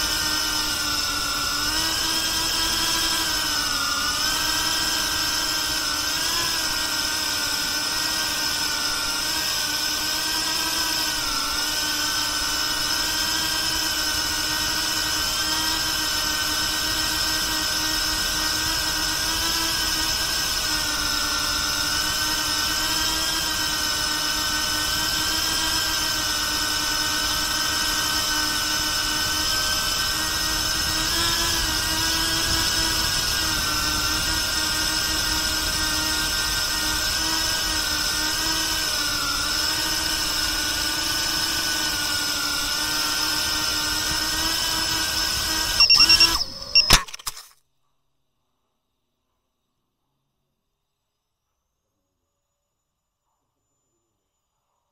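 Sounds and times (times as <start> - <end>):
drone motors whining: 0.0 - 47.6.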